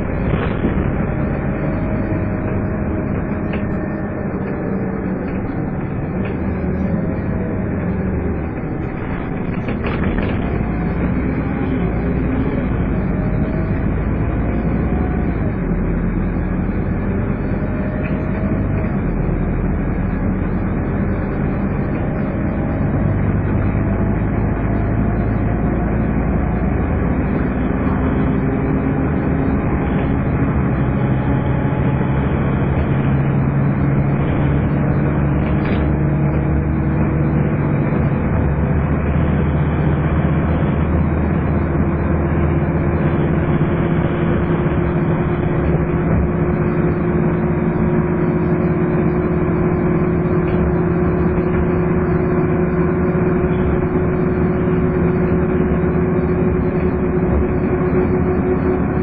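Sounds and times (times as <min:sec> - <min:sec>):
bus diesel engine whining: 0:00.0 - 0:59.0
road noise: 0:00.0 - 0:59.0.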